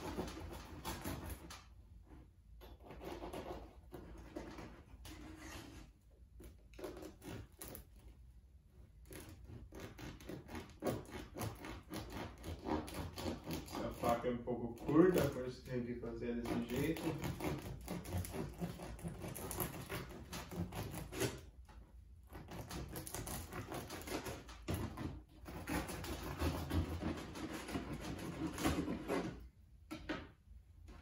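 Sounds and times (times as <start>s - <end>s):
knife sawing through bread crust: 0.0s - 29.5s.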